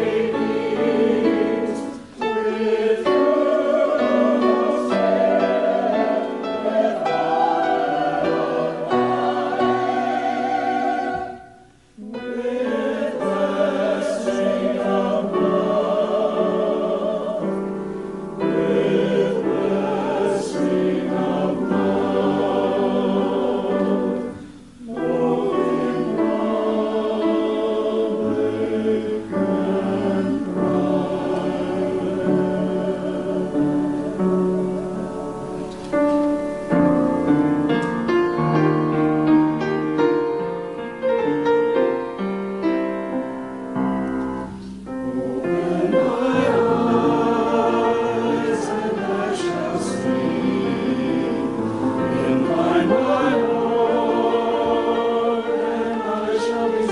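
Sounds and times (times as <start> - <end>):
church choir singing: 0.0 - 56.9.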